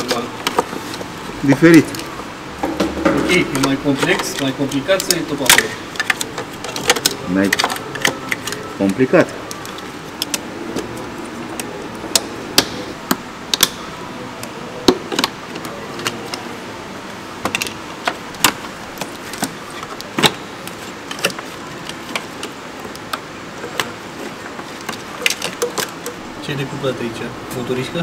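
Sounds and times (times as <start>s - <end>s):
steady background hiss: 0.0s - 28.0s.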